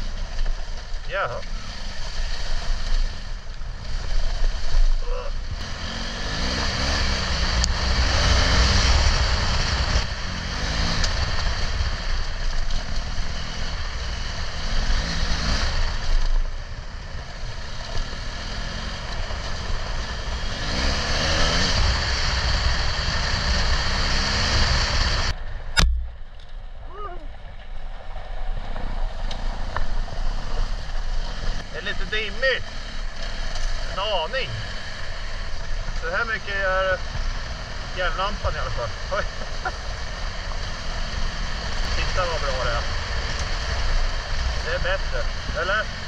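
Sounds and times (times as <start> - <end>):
motorcycle engine revving: 0.0 - 46.0
wind and road noise: 0.0 - 46.0.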